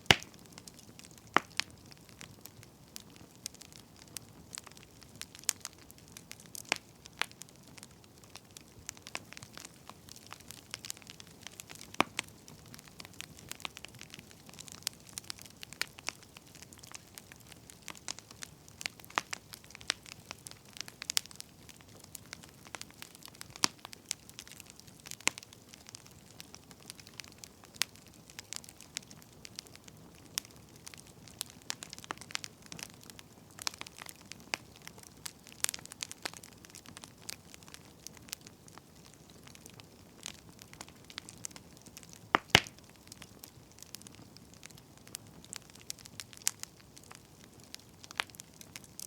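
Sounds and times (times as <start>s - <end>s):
faint steady hiss: 0.0s - 49.0s
firewood crackling: 0.0s - 49.0s.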